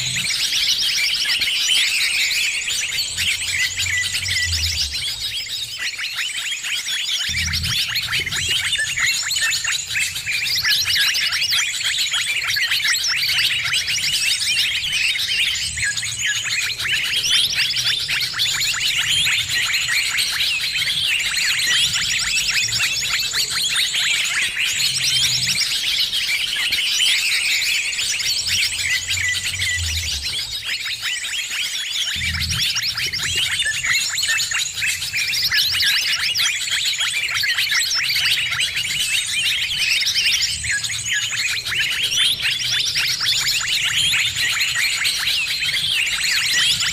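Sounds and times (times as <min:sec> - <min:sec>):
small birds chirping and trilling: 0:00.0 - 0:46.9.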